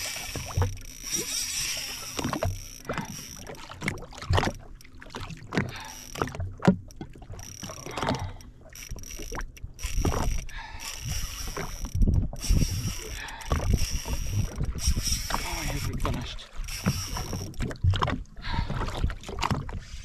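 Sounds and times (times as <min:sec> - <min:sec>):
water splashing against a hull: 0:00.0 - 0:20.0.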